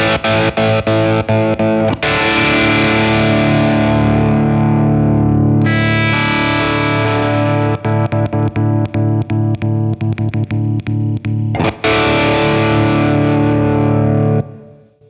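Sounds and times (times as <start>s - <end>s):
distorted electric guitar chord: 0.0s - 14.8s.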